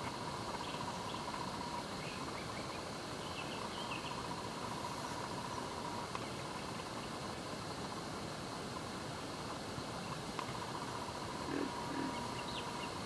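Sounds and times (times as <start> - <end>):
constant hiss: 0.0 - 13.0
insects trilling and buzzing: 0.0 - 13.0.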